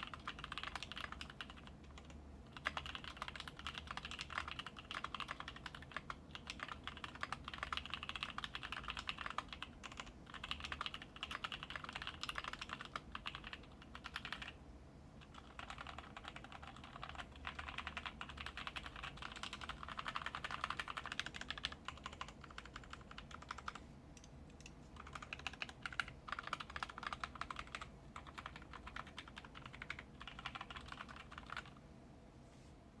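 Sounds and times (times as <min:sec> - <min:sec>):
fast typing on mechanical keyboard: 0:00.0 - 0:14.6, 0:15.2 - 0:23.8, 0:25.0 - 0:31.8.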